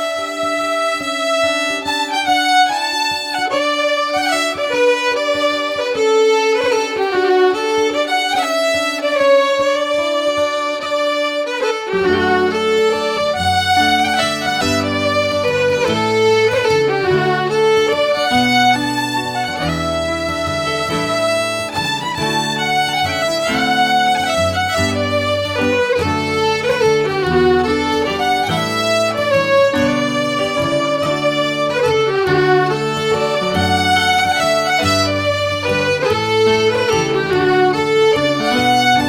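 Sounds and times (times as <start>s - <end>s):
fiddle melody: 0.0s - 39.0s.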